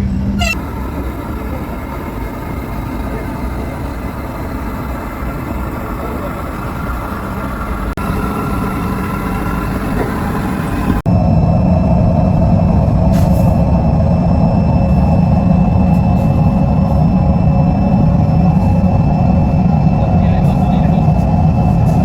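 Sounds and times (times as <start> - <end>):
heavy machinery running: 0.0 - 22.0
steady machine hum: 0.0 - 22.0.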